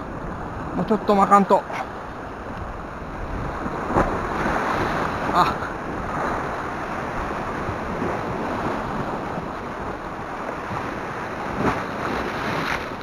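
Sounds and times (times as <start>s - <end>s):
surf washing over rocks: 0.0s - 13.0s
wind buffeting microphone: 1.6s - 13.0s.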